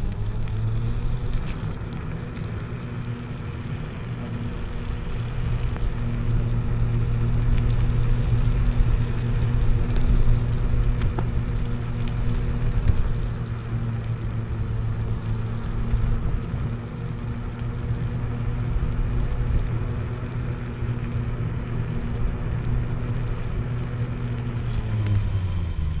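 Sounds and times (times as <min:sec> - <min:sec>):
electric scooter hum: 0:00.0 - 0:26.0
rumble: 0:00.0 - 0:26.0.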